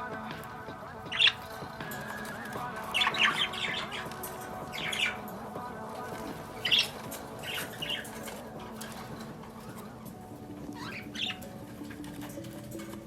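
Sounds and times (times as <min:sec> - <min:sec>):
background music: 0:00.0 - 0:13.0
budgerigars squawking: 0:00.0 - 0:13.0.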